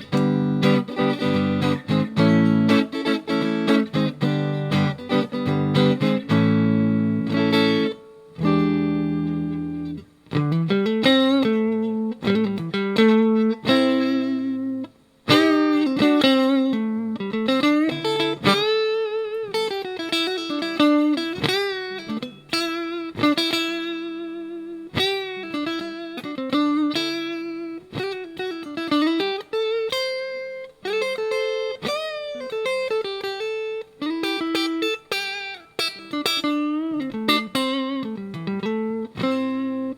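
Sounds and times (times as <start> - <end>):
clean electric guitar: 0.0 - 39.9.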